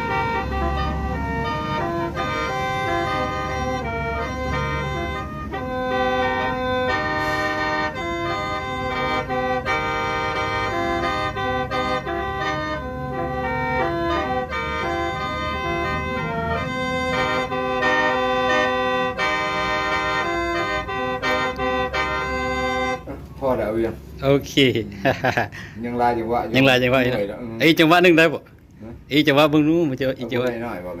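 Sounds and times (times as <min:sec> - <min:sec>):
mouth organ playing chords: 0:00.0 - 0:31.0.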